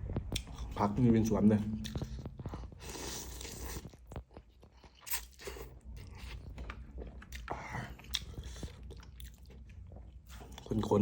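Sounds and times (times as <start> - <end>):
person chewing and crunching: 0.1 - 0.9, 1.6 - 11.0.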